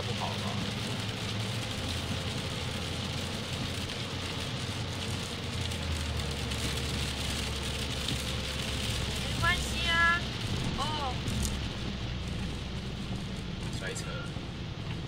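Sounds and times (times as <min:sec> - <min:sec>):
heavy rain and tyre spray: 0:00.0 - 0:15.0.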